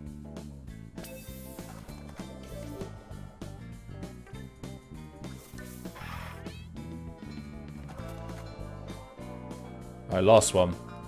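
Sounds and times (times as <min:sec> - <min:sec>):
slot game music: 0:00.8 - 0:11.0.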